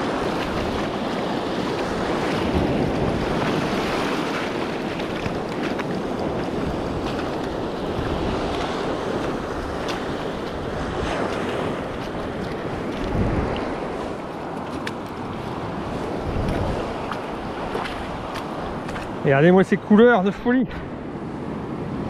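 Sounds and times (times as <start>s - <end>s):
small waves breaking on rocks: 0.0s - 20.6s
wind buffeting microphone: 0.0s - 22.0s.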